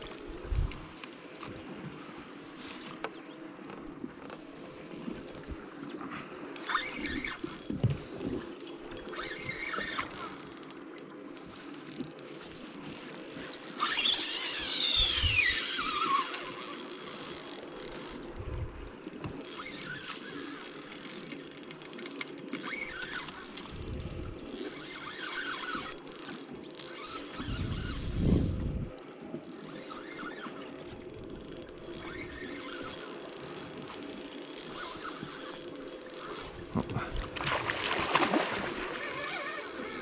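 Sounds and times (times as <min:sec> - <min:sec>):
fishing reel cranking: 0:00.0 - 0:01.0, 0:06.4 - 0:37.4, 0:38.1 - 0:40.0
reel drag whining: 0:00.0 - 0:40.0.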